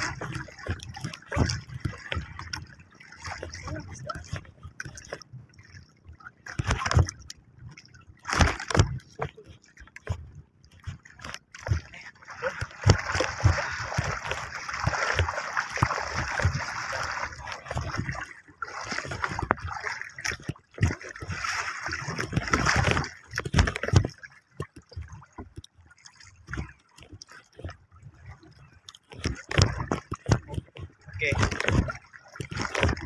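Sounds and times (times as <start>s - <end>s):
water splashing against boat: 0.0s - 33.0s.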